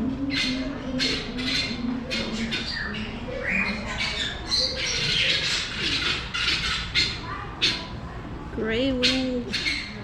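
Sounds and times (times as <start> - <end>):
birds squawking and screeching: 0.0 - 8.2, 8.9 - 10.0.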